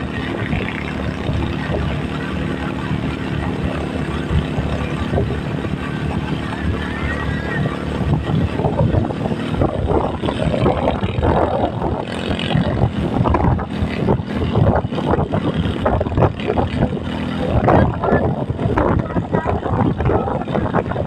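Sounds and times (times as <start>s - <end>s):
vehicle engine running: 0.0s - 21.0s
wind buffeting microphone: 0.0s - 21.0s.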